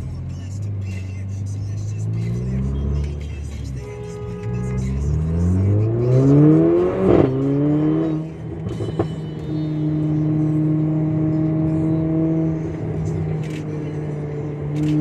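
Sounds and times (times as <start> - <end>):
car engine revving: 0.0 - 4.0, 4.6 - 15.0.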